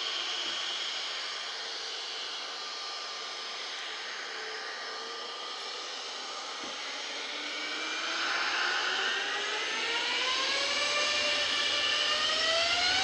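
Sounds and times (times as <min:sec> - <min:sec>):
jet engine whine: 0:00.0 - 0:13.0.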